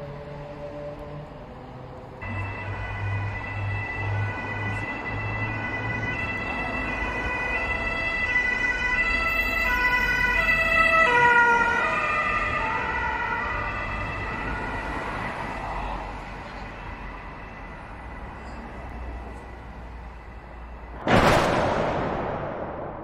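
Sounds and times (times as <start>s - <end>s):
road traffic rumble: 0.0s - 21.3s
ambulance two-tone siren: 2.2s - 21.0s.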